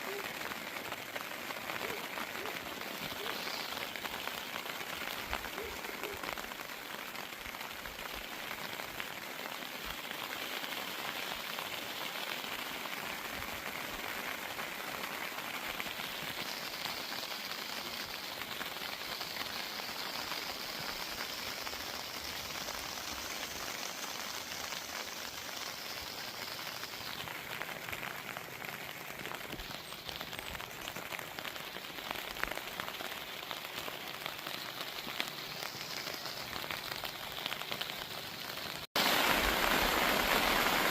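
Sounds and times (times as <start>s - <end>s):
rain drops pattering: 0.0s - 40.9s.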